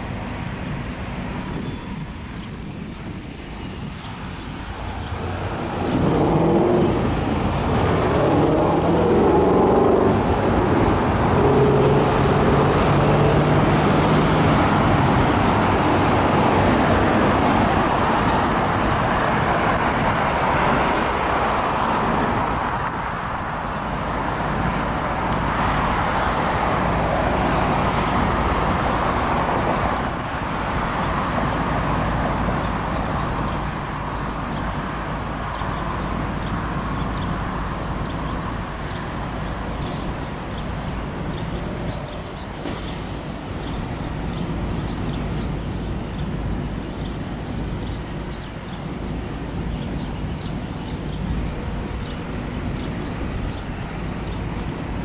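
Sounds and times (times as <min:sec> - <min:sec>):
car and bus engines: 0:00.0 - 0:55.0
vehicle engine hum: 0:00.0 - 0:55.0.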